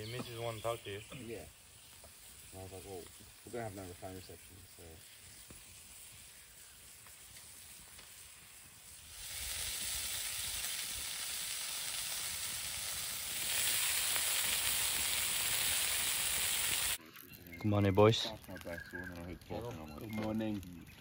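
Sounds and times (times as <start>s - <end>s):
sausages sizzling on a hotplate: 0.0s - 17.0s, 17.7s - 21.0s.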